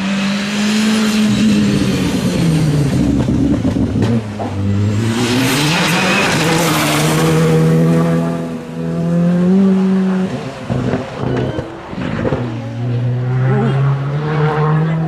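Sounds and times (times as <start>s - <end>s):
rally car engine at high revs: 0.0s - 15.0s
tyre and road noise: 0.0s - 15.0s.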